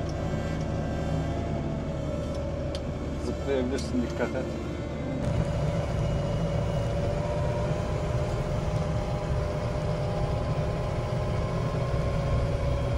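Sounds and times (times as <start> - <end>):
engine rumbling: 0.0 - 12.9.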